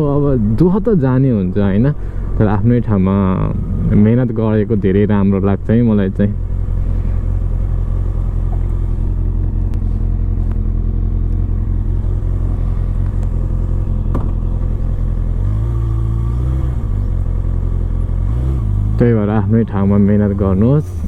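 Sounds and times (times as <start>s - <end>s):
motorcycle engine: 0.0s - 21.0s
road noise: 0.0s - 21.0s.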